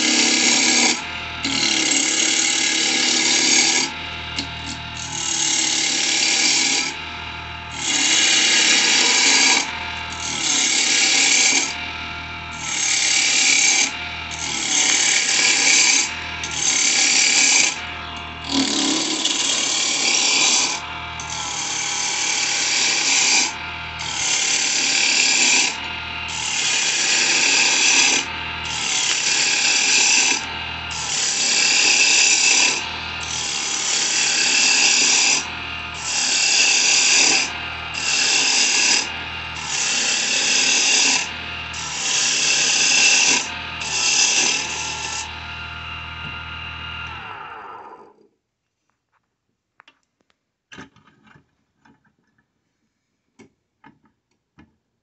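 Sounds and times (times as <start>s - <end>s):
lathe hum: 0.0s - 48.3s.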